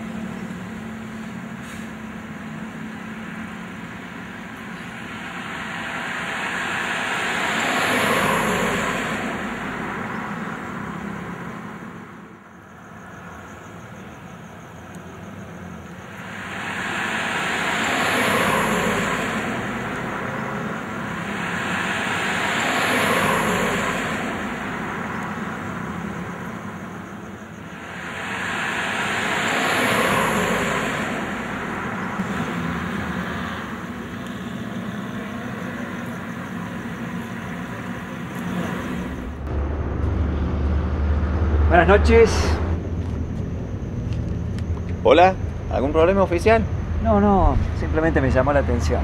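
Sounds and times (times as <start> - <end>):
background traffic hum: 0.0 - 49.0
vehicles passing: 0.0 - 49.0.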